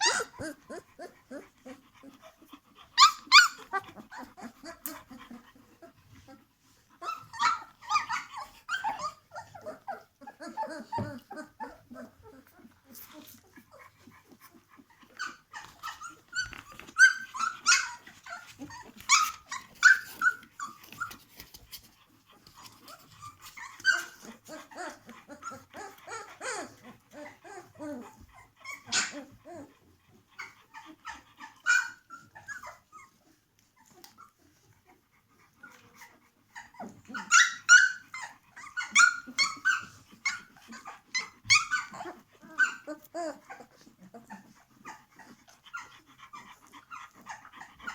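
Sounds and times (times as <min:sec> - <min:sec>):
puppies squeaking and whimpering: 0:00.0 - 0:47.9.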